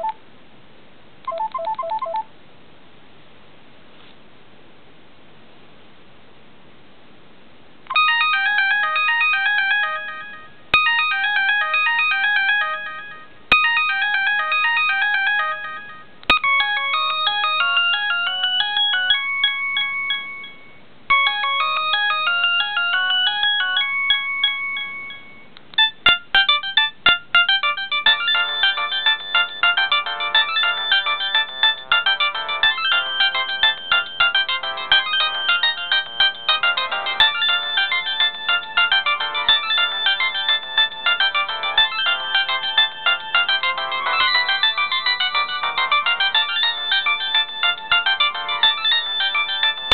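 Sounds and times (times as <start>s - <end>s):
phone ringtone tunes: 1.3s - 2.3s, 7.9s - 49.9s.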